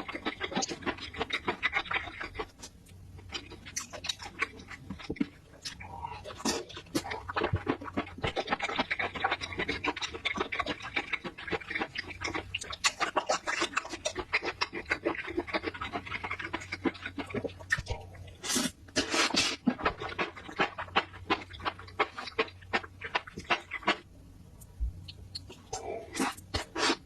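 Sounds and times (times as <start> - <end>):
wet chewing and mouth smacks: 0.0 - 24.1, 25.0 - 27.0.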